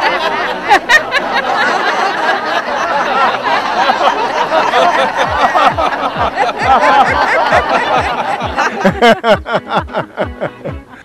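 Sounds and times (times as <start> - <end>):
crowd laughing loudly: 0.0 - 11.0.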